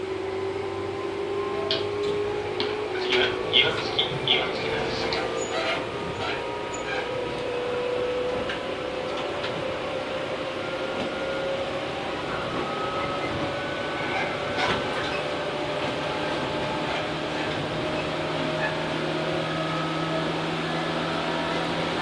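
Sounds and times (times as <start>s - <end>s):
train mechanical rumble: 0.0s - 22.0s.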